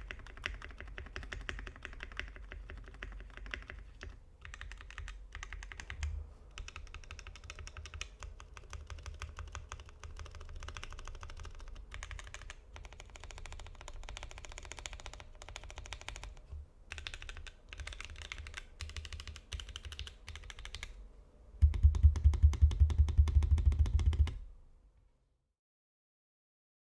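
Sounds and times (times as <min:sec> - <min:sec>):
mechanical keyboard typing: 0:00.0 - 0:21.0, 0:21.6 - 0:24.4.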